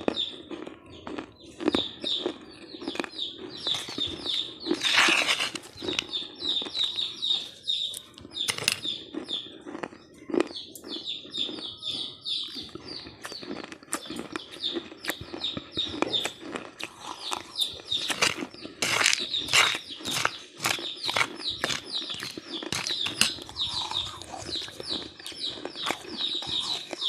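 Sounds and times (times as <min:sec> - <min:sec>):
crunchy snack chewing: 0:00.0 - 0:07.2, 0:07.9 - 0:27.0.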